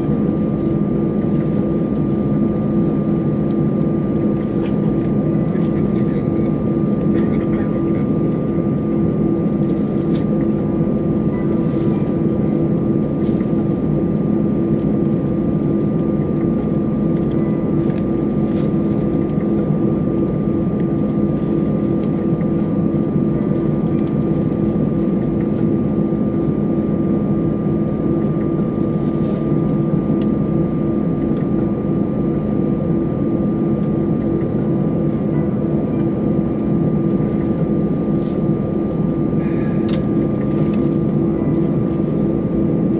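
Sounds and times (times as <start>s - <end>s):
airplane cabin drone: 0.0s - 42.9s.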